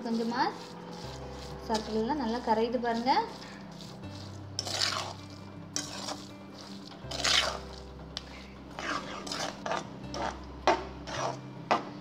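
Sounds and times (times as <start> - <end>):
spoon scraping metal pot: 0.1 - 11.4.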